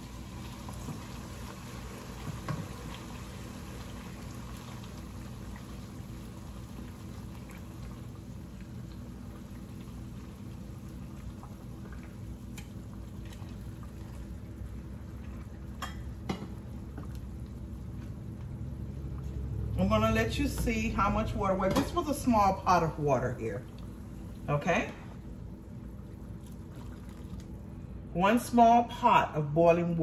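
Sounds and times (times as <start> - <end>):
liquid bubbling in pan: 0.0 - 28.1.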